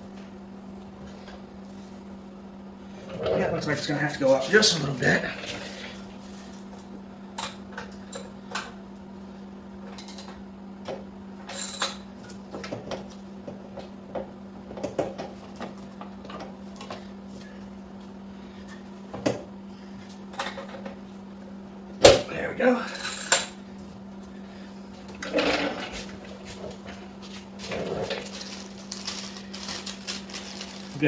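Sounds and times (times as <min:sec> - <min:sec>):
steady low hum: 0:00.0 - 0:11.5, 0:12.1 - 0:31.0.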